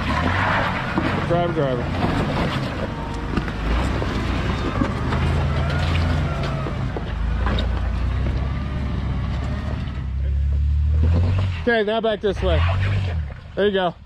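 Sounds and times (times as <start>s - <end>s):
off-road vehicle engine at low revs: 0.0s - 14.0s.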